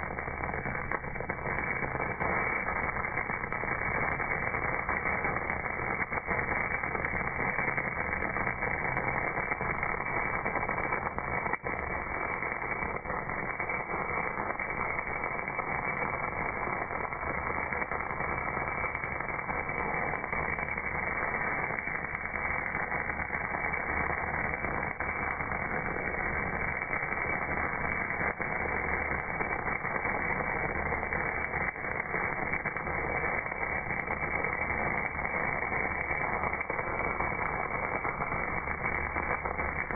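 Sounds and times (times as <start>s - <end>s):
slowed welding arc crackling: 0.0s - 39.9s.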